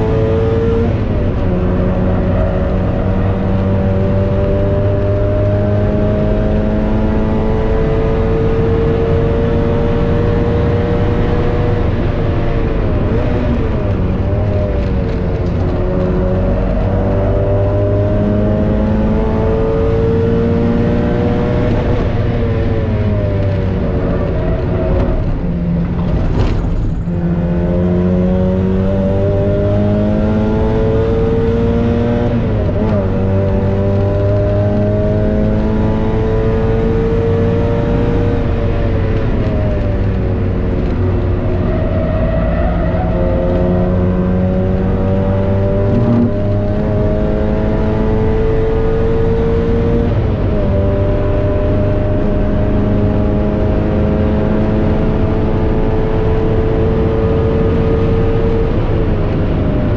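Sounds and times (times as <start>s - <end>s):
car engine under load: 0.0s - 59.9s
road and wind noise: 0.0s - 59.9s.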